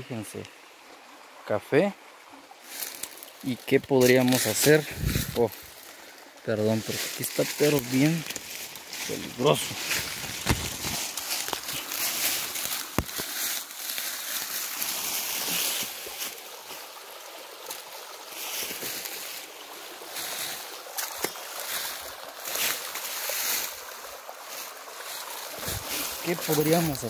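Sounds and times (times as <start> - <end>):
stream running over rocks: 0.0 - 27.0
footsteps crunching on dry ground: 2.6 - 16.8, 18.4 - 27.0.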